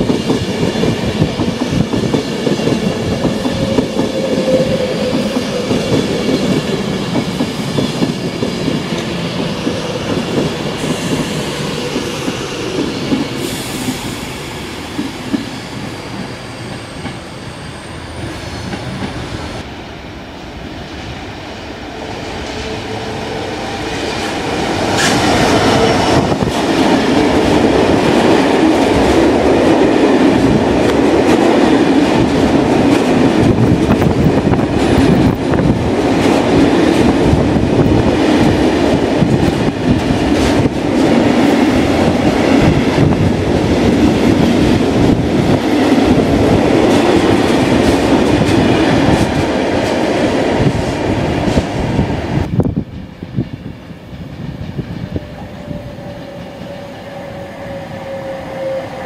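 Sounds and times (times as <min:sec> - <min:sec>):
electric train whine: 0:00.0 - 0:50.0, 0:50.6 - 0:59.0.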